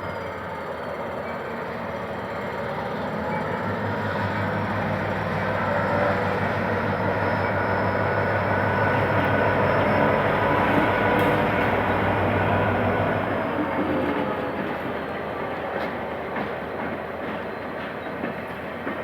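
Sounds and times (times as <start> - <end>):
diesel locomotive engine hum: 0.0 - 19.0.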